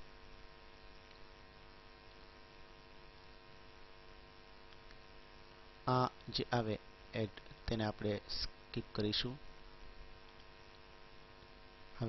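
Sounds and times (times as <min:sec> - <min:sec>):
faint electrical hum: 0:00.0 - 0:12.0
low hiss: 0:00.0 - 0:12.0.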